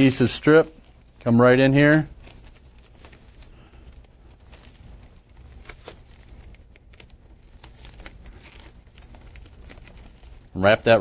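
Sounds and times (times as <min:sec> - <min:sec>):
plastic wrap crinkling: 0:00.0 - 0:11.0
small crackles and clicks: 0:02.1 - 0:11.0.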